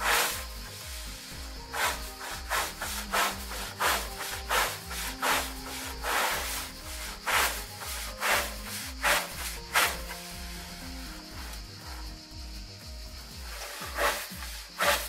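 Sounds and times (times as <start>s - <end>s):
rubbing on wooden boards: 0.0s - 11.6s, 13.5s - 15.0s
background music with beat: 0.0s - 15.0s.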